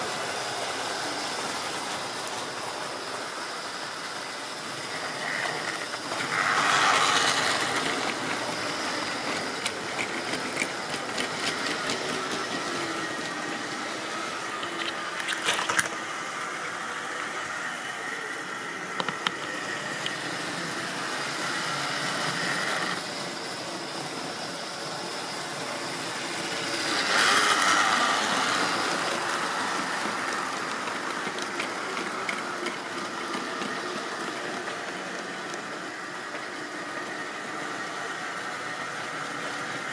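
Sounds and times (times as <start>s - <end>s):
model trains whirring and rattling: 0.0s - 39.9s.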